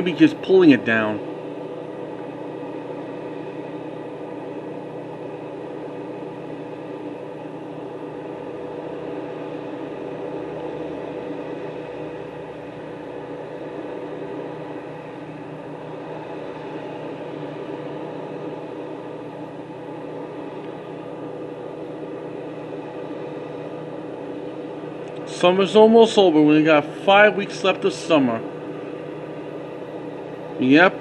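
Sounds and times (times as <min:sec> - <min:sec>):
machine humming steadily: 0:00.0 - 0:31.0.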